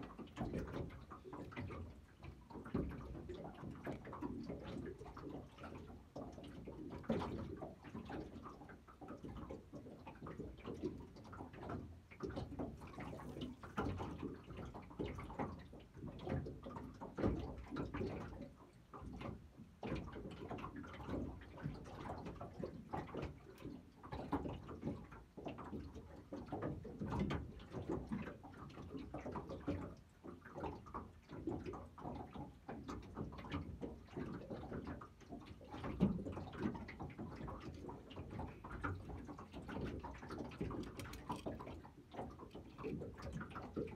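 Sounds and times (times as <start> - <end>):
waves slapping against metal hull: 0.0 - 43.9.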